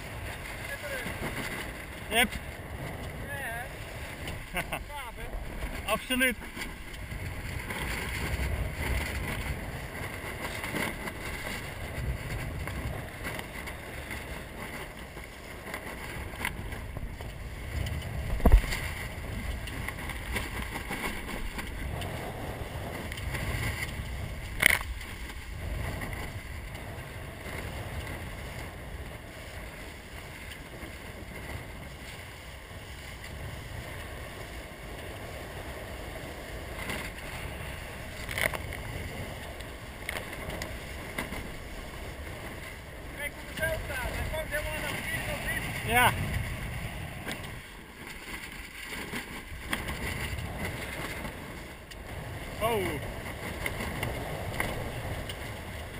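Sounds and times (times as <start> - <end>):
water rushing along hull: 0.0 - 55.9
wind buffeting microphone: 0.0 - 55.9.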